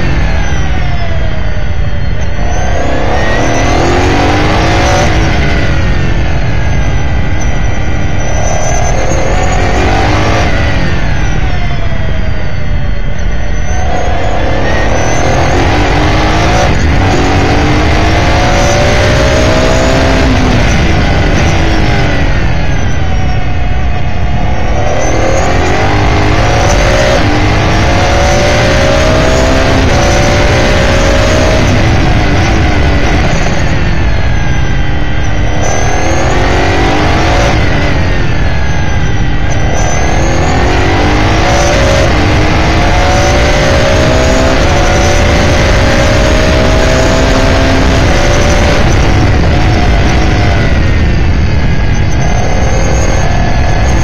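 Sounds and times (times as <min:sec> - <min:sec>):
race car engine: 0:00.0 - 0:54.0
wind and road rumble: 0:00.0 - 0:54.0.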